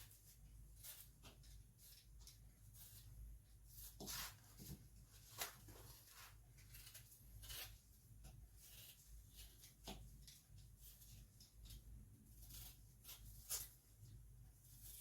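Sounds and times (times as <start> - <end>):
knife cutting and scraping pear: 0.0 - 15.0.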